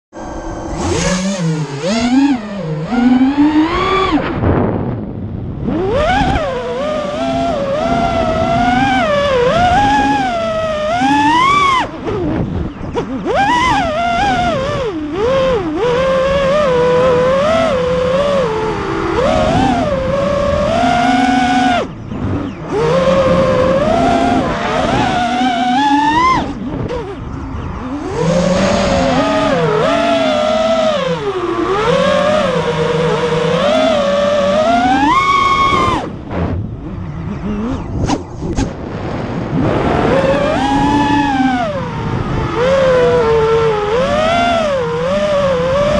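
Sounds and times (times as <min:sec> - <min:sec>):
quadcopter motors whining: 0:00.2 - 0:38.9, 0:39.5 - 0:45.9.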